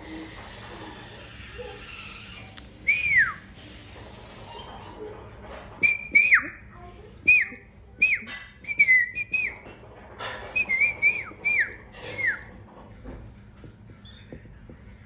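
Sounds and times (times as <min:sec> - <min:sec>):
baby bird chirping: 0:00.2 - 0:12.7.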